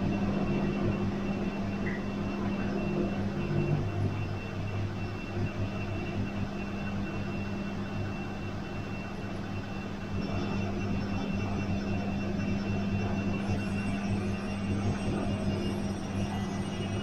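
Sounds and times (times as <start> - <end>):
faint high whine: 0.0 - 17.0
washing machine motor hum: 0.0 - 17.0.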